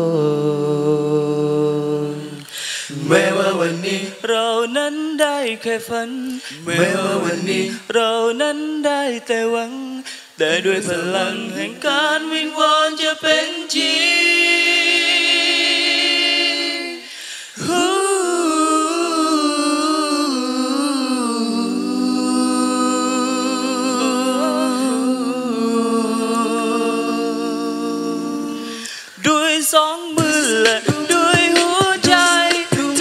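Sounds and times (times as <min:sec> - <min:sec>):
a cappella vocal group singing: 0:00.0 - 0:33.0.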